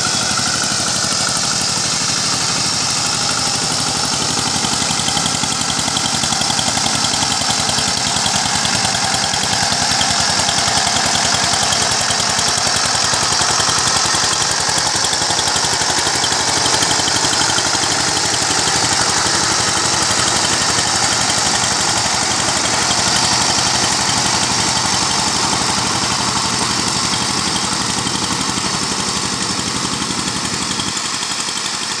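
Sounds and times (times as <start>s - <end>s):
tiller engine running: 0.0s - 32.0s.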